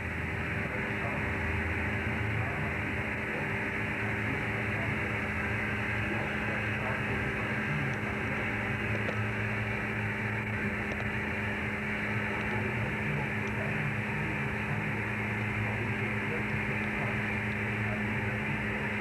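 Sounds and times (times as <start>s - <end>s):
boat machinery droning: 0.0s - 19.0s.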